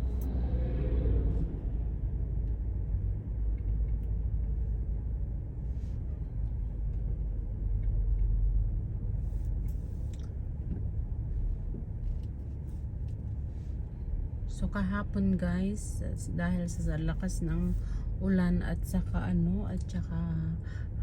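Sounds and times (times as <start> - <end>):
car driving rumble from inside: 0.0 - 21.0.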